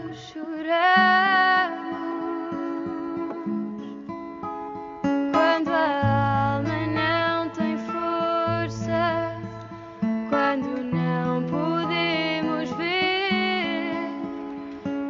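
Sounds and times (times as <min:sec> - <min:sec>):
plucked acoustic guitar music: 0:00.0 - 0:15.0.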